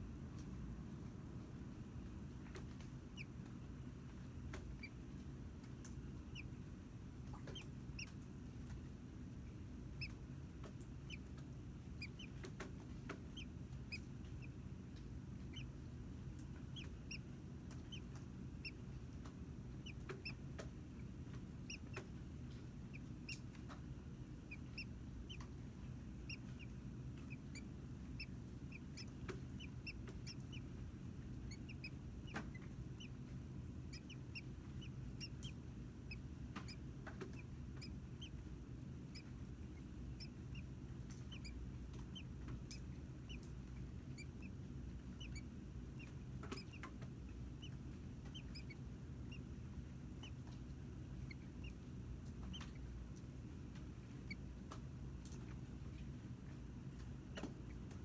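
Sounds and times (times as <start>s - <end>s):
steady low hum: 0.0s - 58.0s
baby birds peeping: 1.6s - 58.0s.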